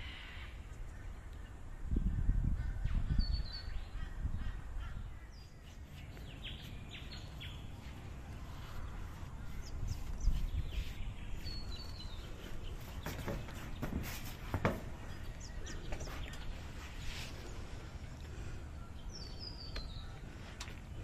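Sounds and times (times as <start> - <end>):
birds chirping: 2.9 - 21.0.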